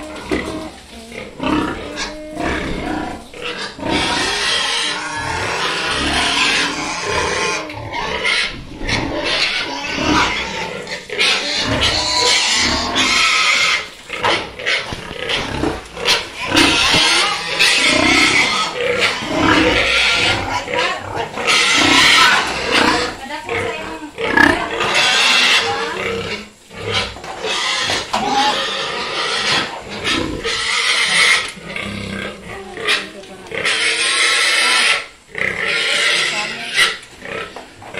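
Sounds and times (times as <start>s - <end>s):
pigs squealing: 0.0s - 37.9s.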